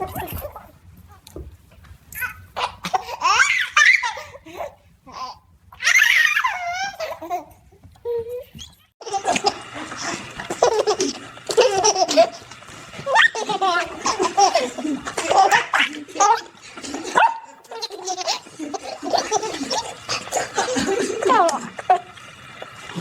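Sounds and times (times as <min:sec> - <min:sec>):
baby giggling: 0:02.2 - 0:12.4, 0:13.0 - 0:22.1.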